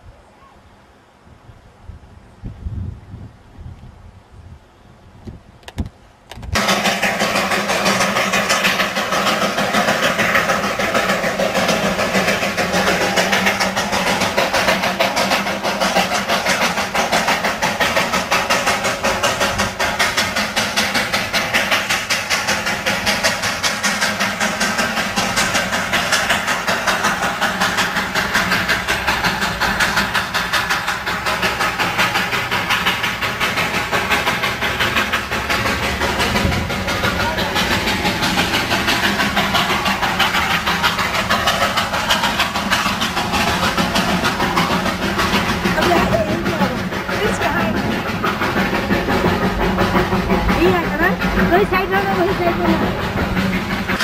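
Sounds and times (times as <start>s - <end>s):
train rattling: 5.0s - 54.0s.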